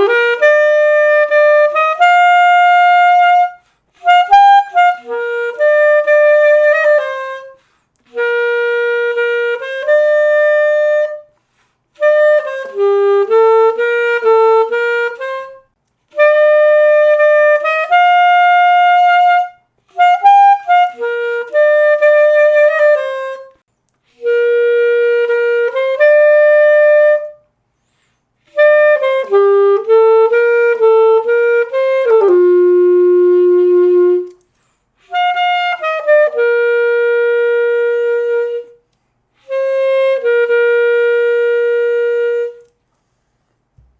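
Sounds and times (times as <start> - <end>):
alto saxophone solo: 0.0 - 42.9.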